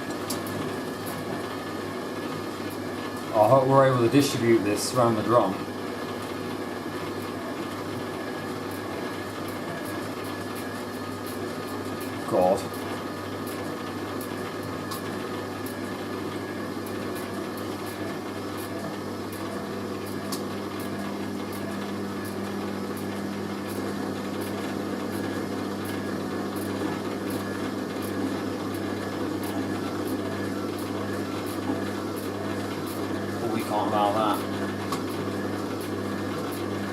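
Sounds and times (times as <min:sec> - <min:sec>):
washing machine motor hum: 0:00.0 - 0:36.9.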